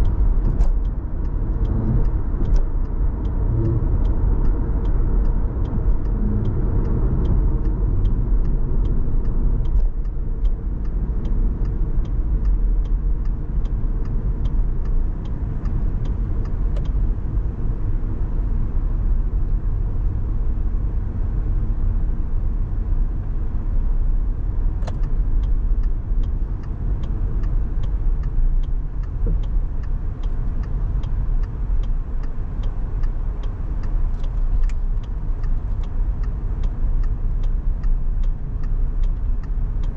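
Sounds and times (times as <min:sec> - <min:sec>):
car engine and road noise: 0:00.0 - 0:39.9
turn signal ticking: 0:00.0 - 0:39.9.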